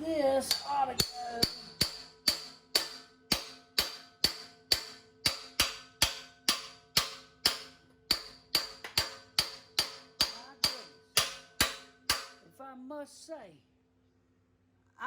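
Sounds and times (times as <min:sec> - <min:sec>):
hammer ringing on steel: 0:00.3 - 0:12.4.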